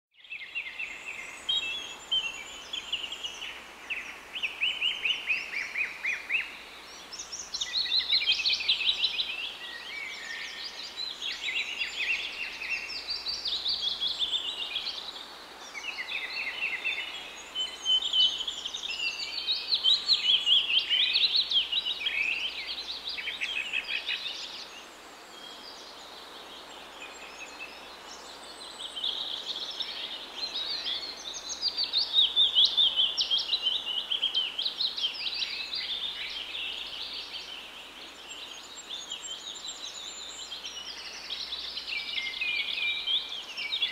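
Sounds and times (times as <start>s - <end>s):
birds chirping and trilling: 0.2s - 43.9s.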